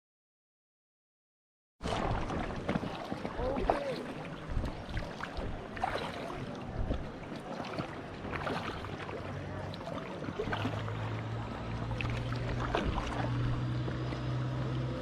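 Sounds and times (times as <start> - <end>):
paddle splashes and drips: 1.8 - 15.0.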